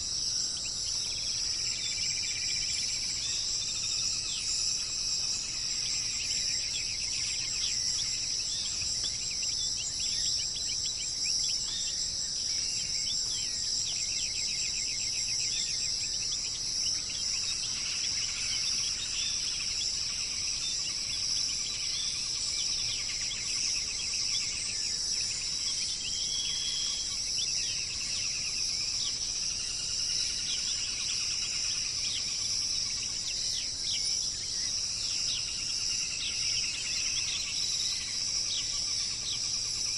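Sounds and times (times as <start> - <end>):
birds chirping and trilling: 0.0 - 39.9
insect chorus droning: 0.0 - 39.9.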